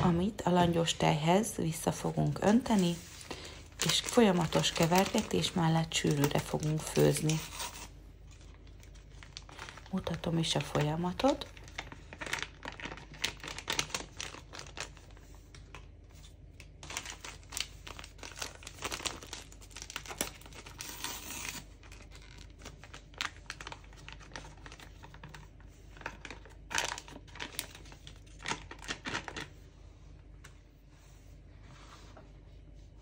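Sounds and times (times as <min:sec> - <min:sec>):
sachet crinkling and tearing: 0:02.3 - 0:29.6.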